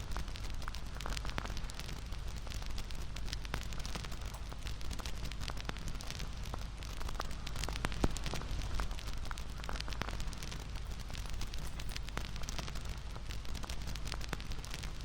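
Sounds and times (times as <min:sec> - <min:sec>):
campfire crackling: 0:00.1 - 0:15.0.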